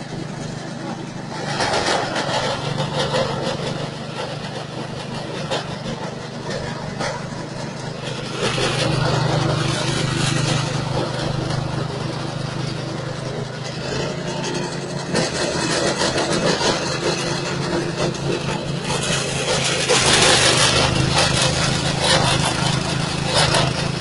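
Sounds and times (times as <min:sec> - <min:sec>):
chopper engine running: 0:00.0 - 0:24.0.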